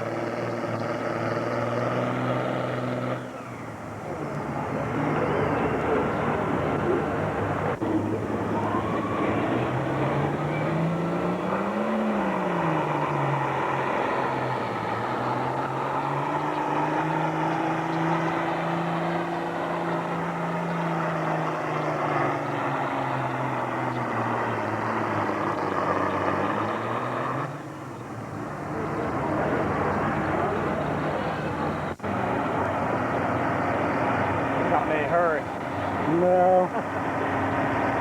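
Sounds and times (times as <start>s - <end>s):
tractor engine under load: 0.0s - 38.0s.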